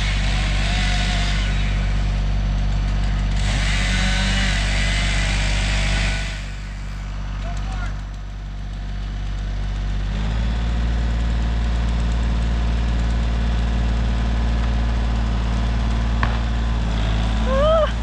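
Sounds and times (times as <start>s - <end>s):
vehicle engine revving: 0.0s - 12.1s, 13.0s - 18.0s.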